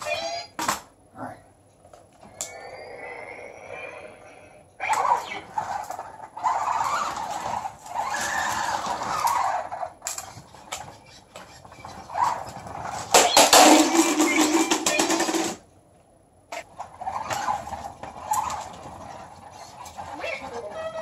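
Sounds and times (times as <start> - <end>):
ball rolling across floor: 1.8 - 15.6, 16.5 - 21.0
toy motor whirring: 2.4 - 15.6, 16.8 - 21.0.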